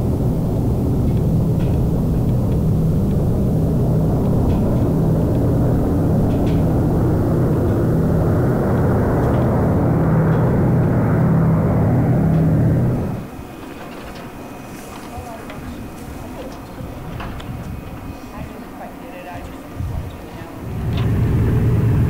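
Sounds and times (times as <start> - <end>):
aircraft radial engines droning: 0.0 - 22.0.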